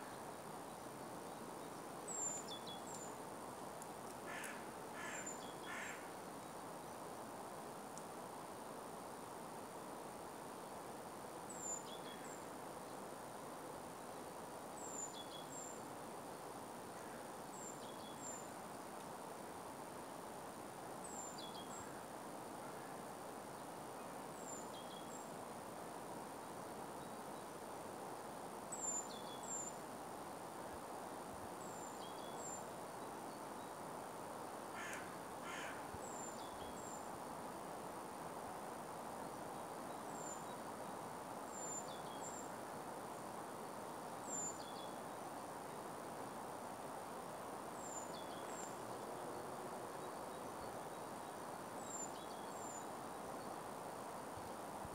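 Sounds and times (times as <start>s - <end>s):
outdoor background hiss: 0.0s - 54.9s.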